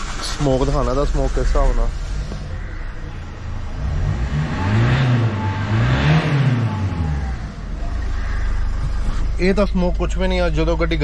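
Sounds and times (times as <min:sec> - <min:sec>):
diesel car engine idling and revving: 0:00.0 - 0:11.0.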